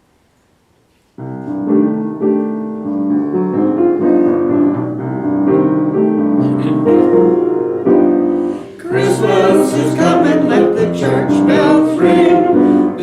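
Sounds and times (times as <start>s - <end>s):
piano chords: 1.2s - 13.0s.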